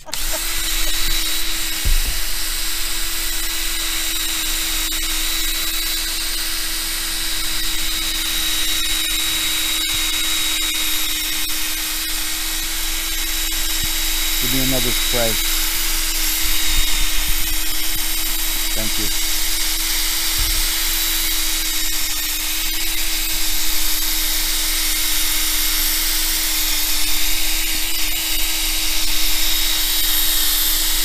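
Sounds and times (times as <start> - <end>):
power drill sanding plastic: 0.0 - 31.0.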